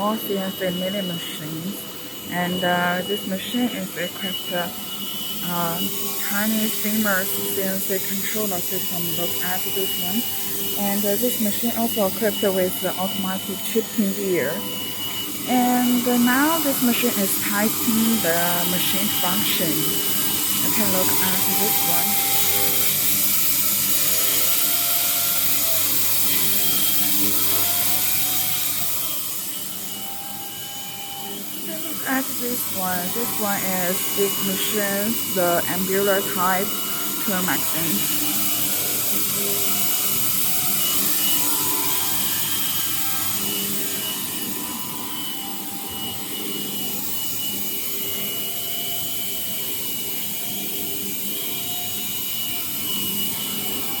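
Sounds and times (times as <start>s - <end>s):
milling machine running: 0.0s - 54.0s
motor whines gliding in pitch: 0.0s - 54.0s.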